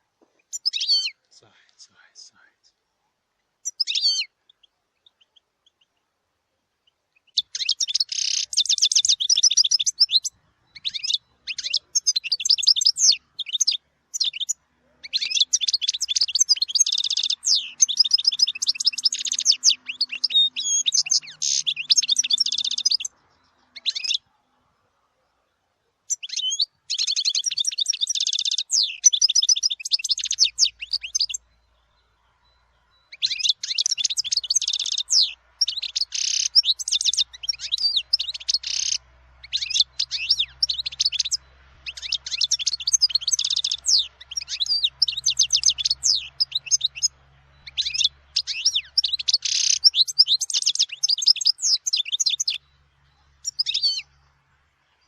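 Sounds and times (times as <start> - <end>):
finch twittering song: 0.0 - 2.8, 3.4 - 6.2, 6.8 - 55.0.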